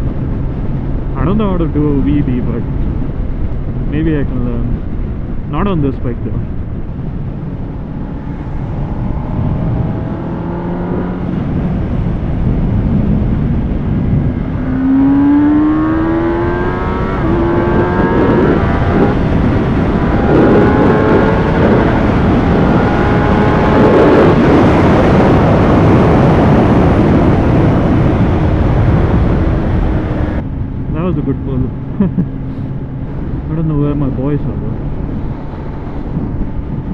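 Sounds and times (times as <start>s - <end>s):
motorcycle engine accelerating: 0.0s - 36.9s
wind noise on microphone: 0.0s - 36.9s.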